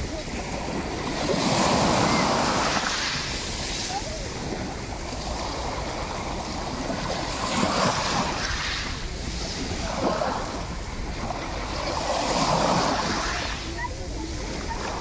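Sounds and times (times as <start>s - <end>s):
waves washing over pebbles: 0.0s - 15.0s
wind rumble on microphone: 0.0s - 15.0s.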